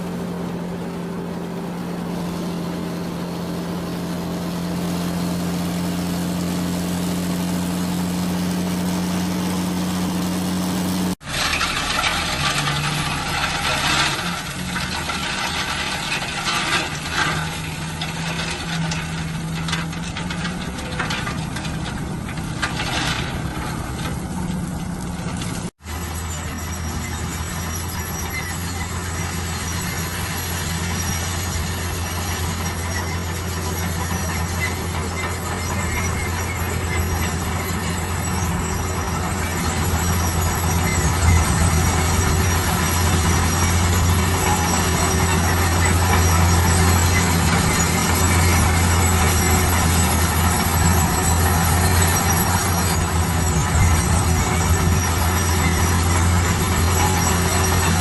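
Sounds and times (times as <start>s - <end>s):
deep engine drone: 0.0s - 58.0s
heavy machinery diesel engine: 0.0s - 58.0s.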